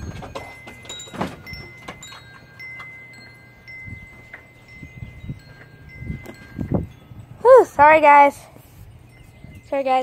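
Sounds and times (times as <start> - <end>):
wind chime ringing: 0.0 - 10.0.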